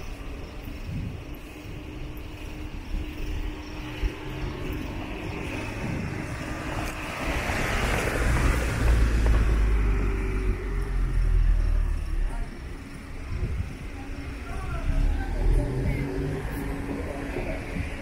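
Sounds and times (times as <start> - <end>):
vehicle passing by: 1.7 - 18.0.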